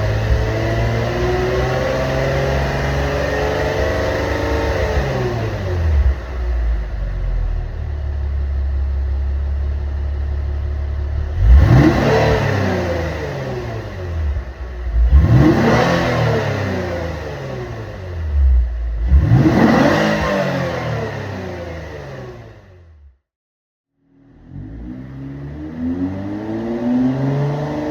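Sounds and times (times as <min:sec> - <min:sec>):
car exhaust idling and revving: 0:00.0 - 0:23.1.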